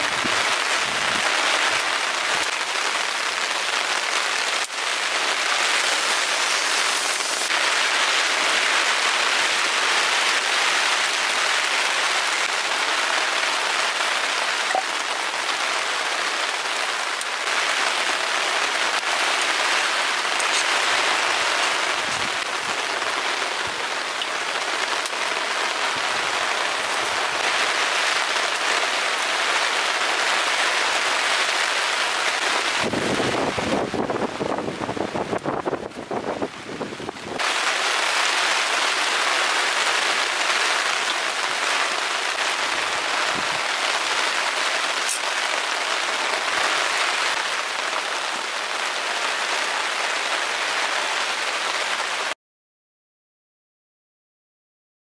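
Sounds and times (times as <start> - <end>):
heavy rain hiss: 0.0 - 52.4.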